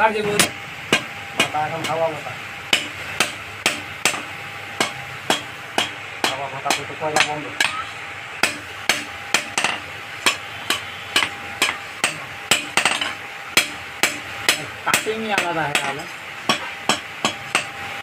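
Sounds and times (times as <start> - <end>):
hammer striking hot metal on anvil: 0.3 - 18.0.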